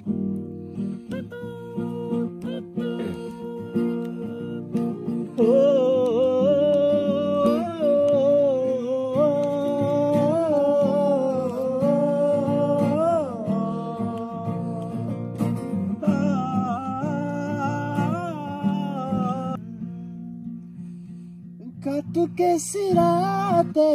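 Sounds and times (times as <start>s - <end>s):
acoustic guitar strumming: 0.0s - 23.9s.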